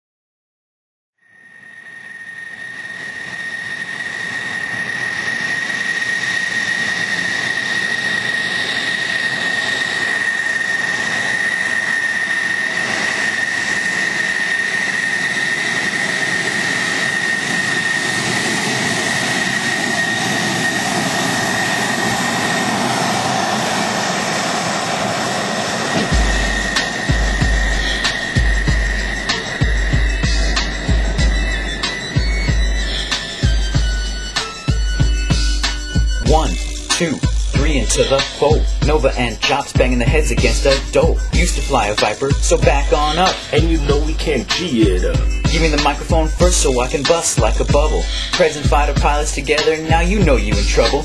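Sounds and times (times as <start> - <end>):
aircraft engine whine: 1.2 - 51.0.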